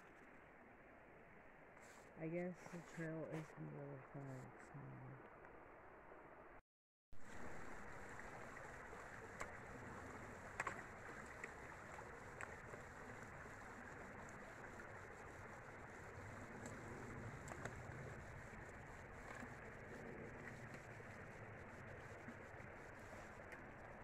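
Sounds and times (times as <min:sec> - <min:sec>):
creek running over rocks: 0:00.0 - 0:06.4, 0:07.2 - 0:24.0.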